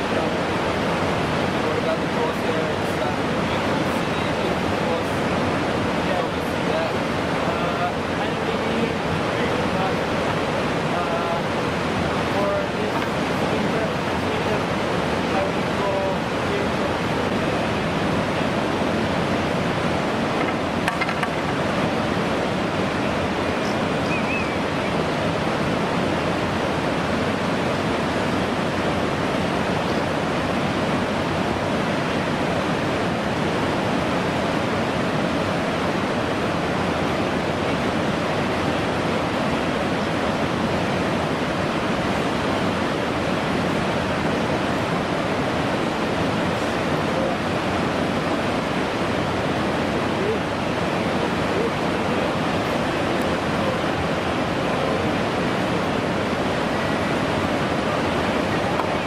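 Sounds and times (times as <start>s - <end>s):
whitewater rapids rushing: 0.0s - 59.0s.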